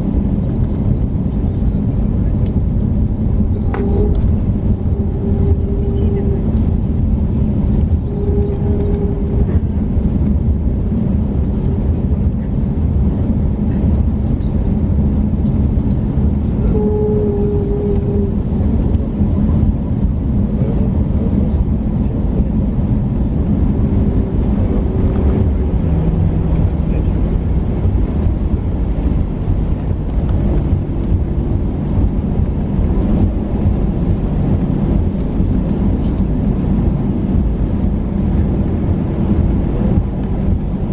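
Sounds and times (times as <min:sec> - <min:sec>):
airplane cabin engine rumble: 0:00.0 - 0:40.9
shifting hum tones: 0:00.0 - 0:40.9.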